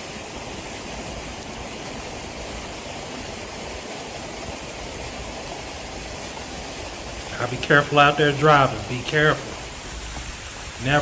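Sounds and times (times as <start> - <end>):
floodwater rushing: 0.0 - 11.0
heavy rain: 0.0 - 11.0.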